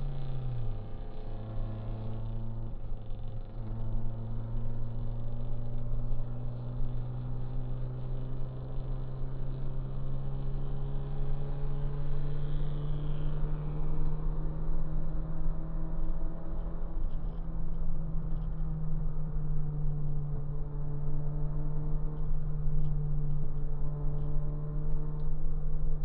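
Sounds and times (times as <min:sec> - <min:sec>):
car engine cruising: 0:00.0 - 0:26.0.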